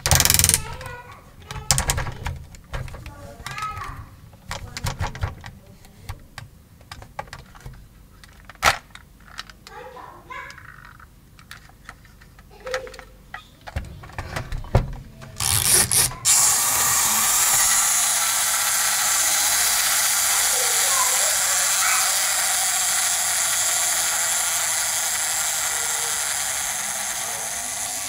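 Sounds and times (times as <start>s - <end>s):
plastic toy clicks and knocks: 0.0s - 9.8s, 10.5s - 28.0s.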